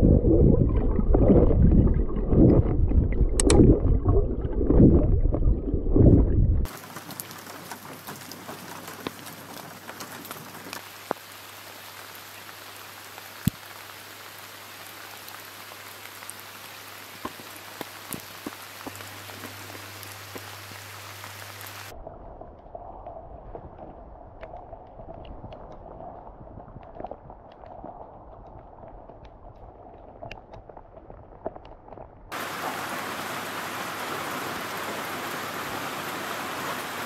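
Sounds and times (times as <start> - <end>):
rain falling on water: 6.6 - 37.0.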